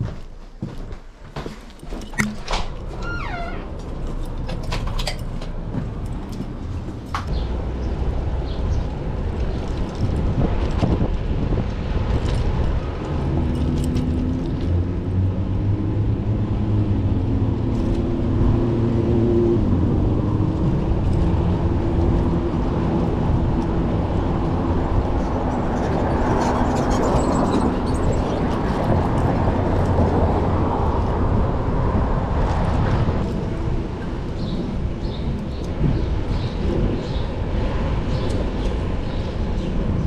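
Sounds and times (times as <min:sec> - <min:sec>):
rush of traffic: 0:00.1 - 0:40.0.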